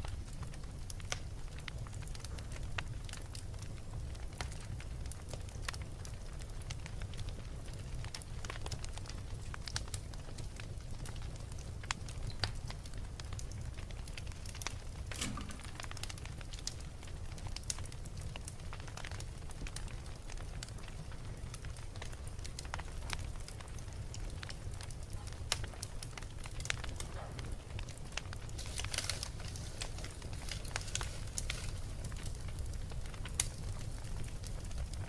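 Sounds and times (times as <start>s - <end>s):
fire low rumble: 0.0s - 35.0s
wood fire crackling and popping: 0.0s - 35.0s.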